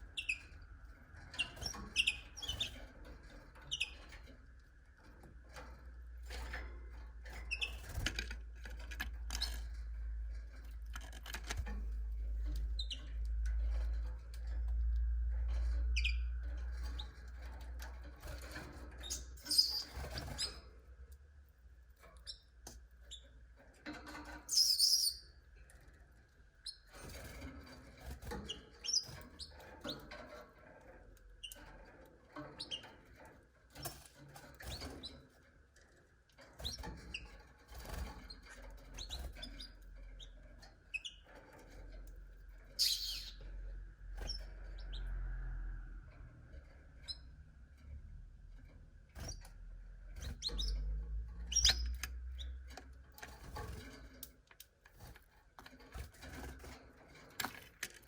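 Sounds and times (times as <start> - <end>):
canaries chirping: 0.0 - 20.8, 22.2 - 26.0, 26.6 - 35.4, 36.4 - 45.2, 46.6 - 47.4, 49.1 - 54.3
wings fluttering in a cage: 0.0 - 58.0.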